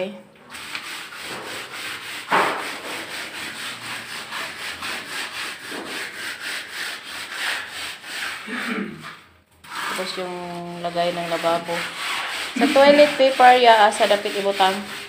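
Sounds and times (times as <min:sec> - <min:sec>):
hand tool scraping cement render: 0:00.5 - 0:15.0.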